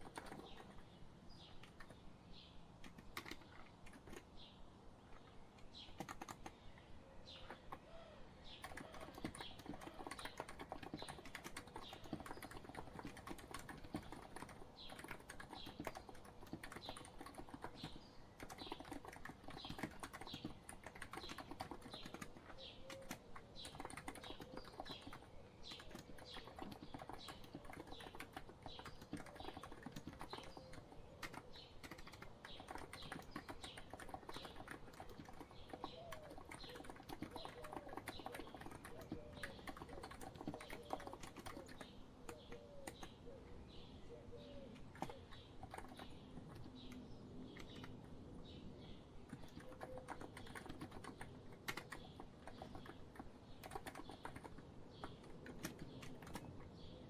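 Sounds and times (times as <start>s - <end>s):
keyboard typing clicks: 0.0s - 0.8s, 2.8s - 4.3s, 5.9s - 6.6s, 8.6s - 43.2s, 44.7s - 48.1s, 49.3s - 56.7s
birds chirping: 0.0s - 57.0s.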